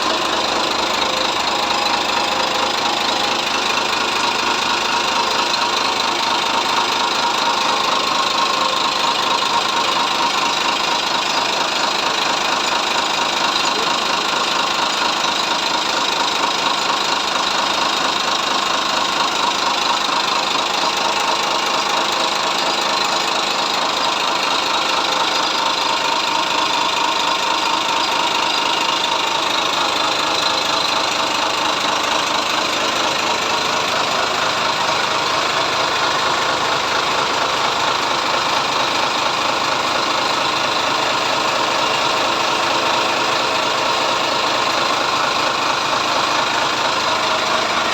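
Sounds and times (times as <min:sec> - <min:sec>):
diesel engine clattering: 0:00.0 - 0:47.9.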